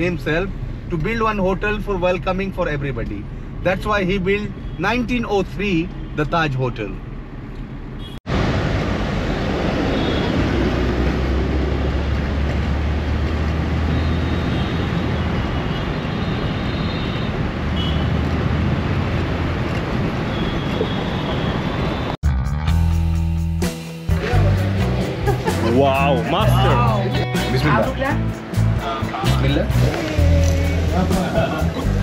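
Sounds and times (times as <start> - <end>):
street noise: 0.0 - 32.0.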